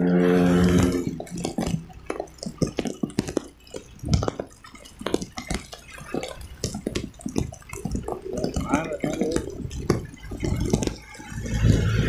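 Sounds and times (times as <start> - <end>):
heavy rain on microphone: 0.0 - 12.0.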